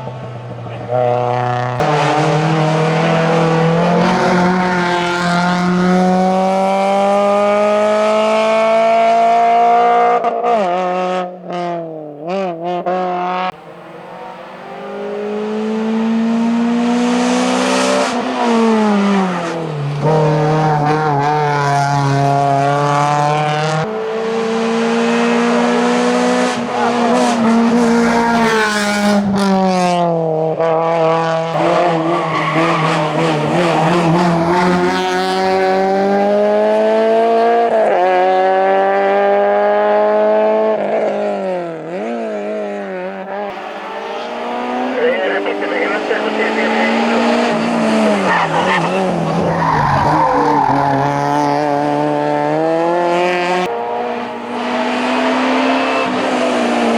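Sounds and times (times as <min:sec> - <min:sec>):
car engine revving at full throttle: 0:00.0 - 0:56.9.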